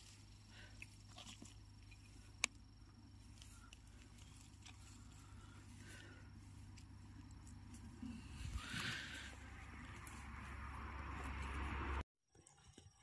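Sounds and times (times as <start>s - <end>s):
crackle of dry pine needles: 0.0s - 11.7s.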